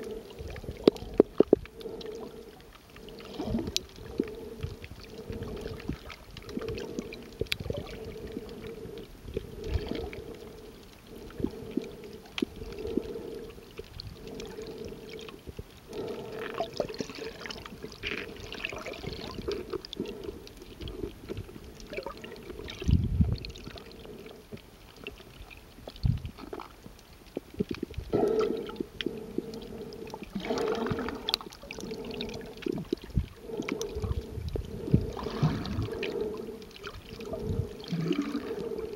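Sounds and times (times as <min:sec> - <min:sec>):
water sloshing underwater: 0:00.0 - 0:38.9.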